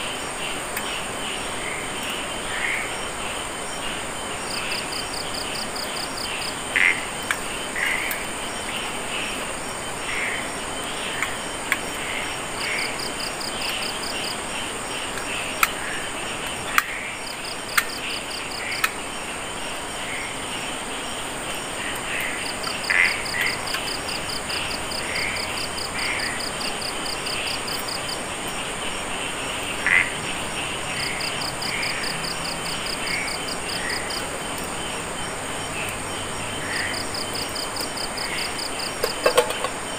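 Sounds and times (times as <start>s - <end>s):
frog calls: 0.0s - 39.9s
high insect trill: 0.0s - 39.9s.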